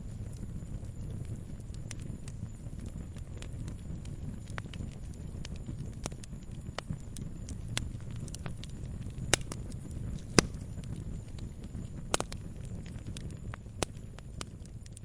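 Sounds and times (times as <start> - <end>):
burning wood popping: 0.0 - 15.0
campfire crackling: 0.0 - 15.0
low rumble of flames: 0.0 - 15.0.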